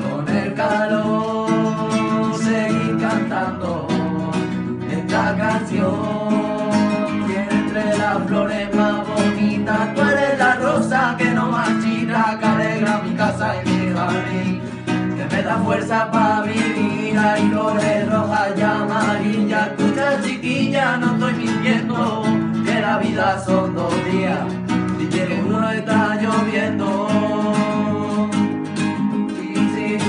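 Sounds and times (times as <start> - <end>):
guitar strummed in rumba rhythm: 0.0 - 30.0
man singing wordless melody: 0.0 - 30.0.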